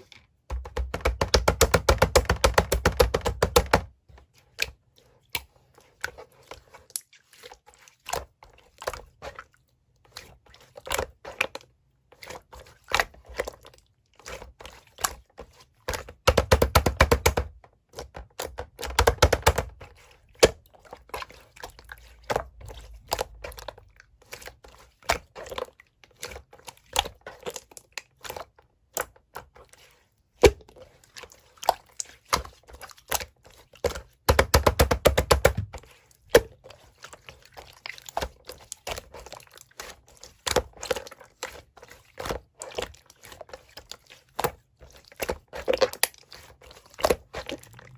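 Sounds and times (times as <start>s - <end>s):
slime squished by hand: 4.5s - 47.9s.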